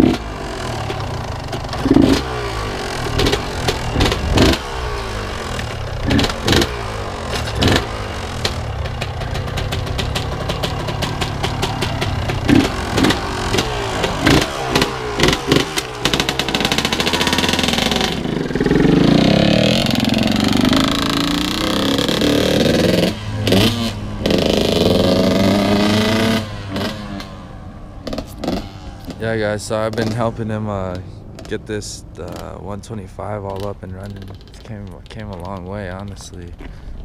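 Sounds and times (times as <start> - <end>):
two-stroke motorcycle engine revving: 0.0 - 36.8.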